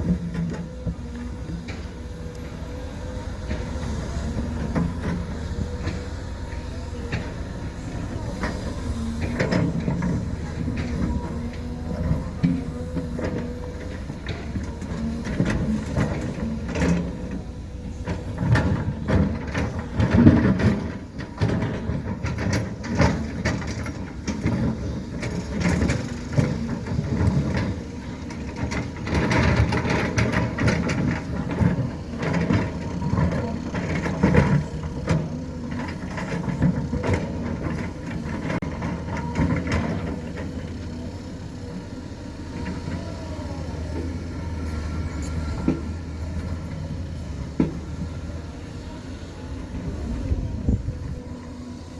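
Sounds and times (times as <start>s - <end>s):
diesel engine running: 0.0s - 51.9s
machinery clanks and knocks: 0.0s - 51.9s.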